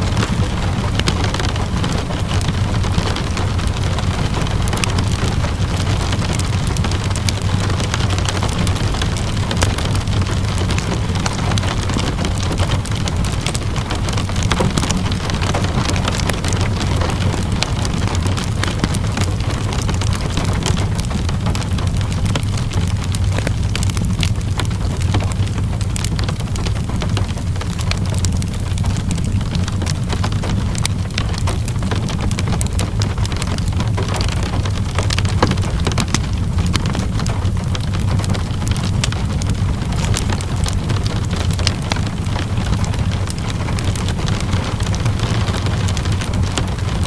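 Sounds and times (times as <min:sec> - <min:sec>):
steady rainfall: 0:00.0 - 0:47.0
wood fire crackling: 0:00.0 - 0:47.0.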